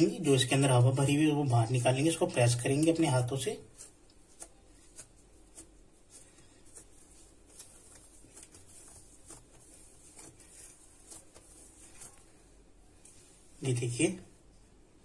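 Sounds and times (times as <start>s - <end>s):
hands kneading dough: 0.0s - 14.5s.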